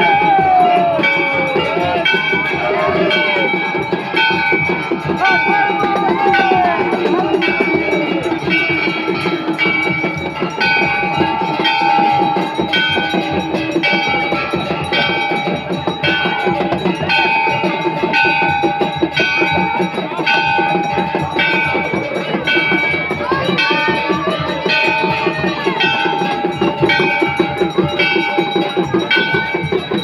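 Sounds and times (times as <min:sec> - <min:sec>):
temple bells clanging: 0:00.0 - 0:30.0.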